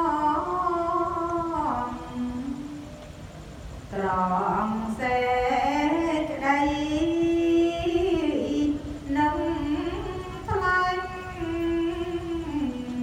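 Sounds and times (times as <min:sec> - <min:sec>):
woman chanting in long held notes: 0:00.0 - 0:03.1, 0:03.8 - 0:13.0.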